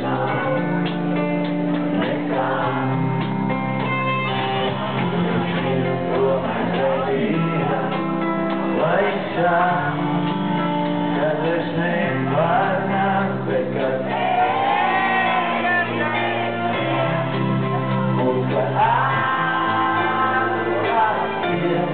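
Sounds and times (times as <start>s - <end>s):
man singing: 0.0s - 1.3s, 1.9s - 3.2s, 4.6s - 21.9s
rock band playing: 0.0s - 21.9s.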